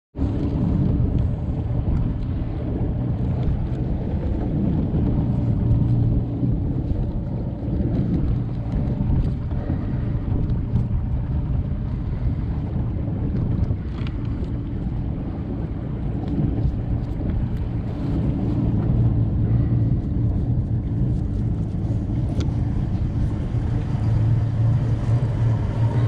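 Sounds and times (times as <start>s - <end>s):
boat outboard motor rumbling: 0.1s - 26.0s
wind buffeting microphone: 0.1s - 26.0s.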